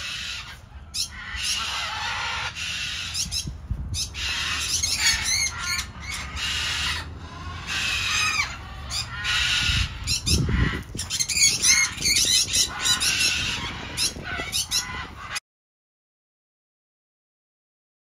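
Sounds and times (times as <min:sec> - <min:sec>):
parrots squawking and screeching: 0:00.0 - 0:15.4.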